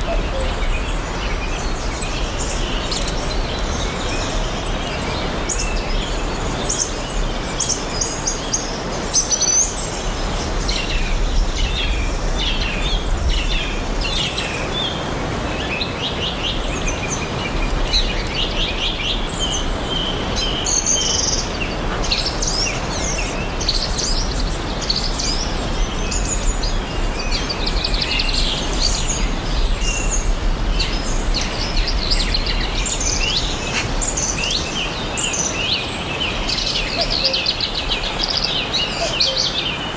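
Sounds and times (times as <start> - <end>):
outdoor background hiss: 0.0 - 39.9
songbirds chirping and trilling: 0.0 - 39.9.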